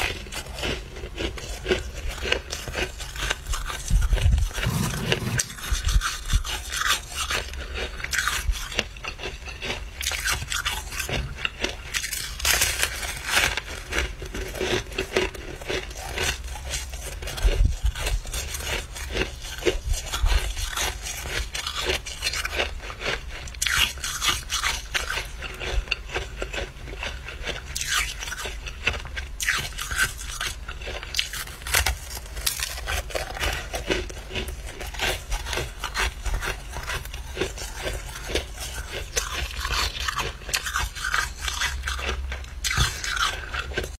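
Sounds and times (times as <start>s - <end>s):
frost crunching and scraping: 0.0s - 44.0s.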